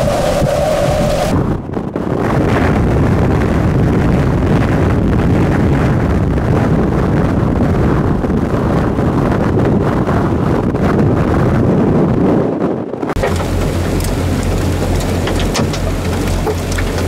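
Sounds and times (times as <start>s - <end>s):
moving vehicle noise: 0.0s - 17.0s
wind on microphone: 0.0s - 17.0s.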